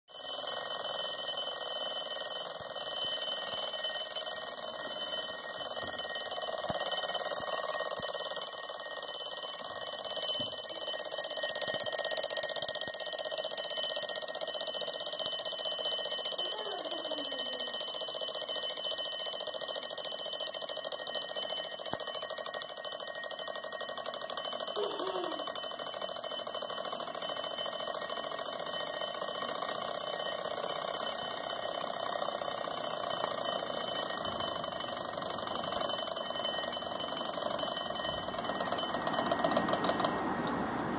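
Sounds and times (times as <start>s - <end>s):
bell alarm clock ringing: 0.1s - 40.4s.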